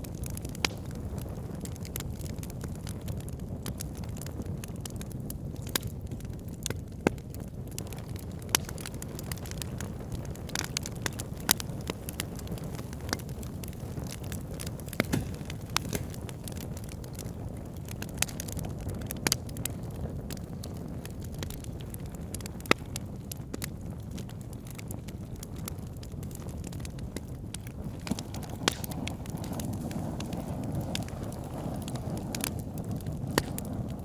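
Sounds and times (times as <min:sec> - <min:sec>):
burning logs crackling and popping: 0:00.0 - 0:34.0
low rumble of flames: 0:00.0 - 0:34.0.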